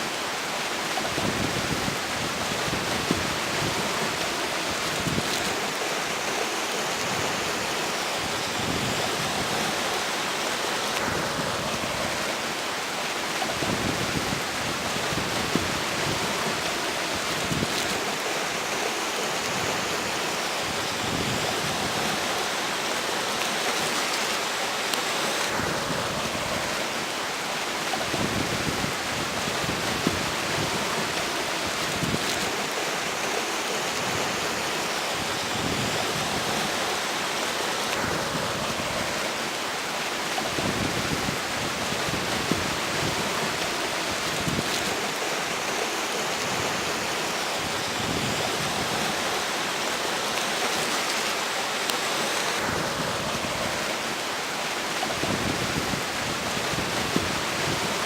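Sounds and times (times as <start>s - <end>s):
river flowing: 0.0s - 58.0s
strong wind gusts: 0.0s - 58.0s.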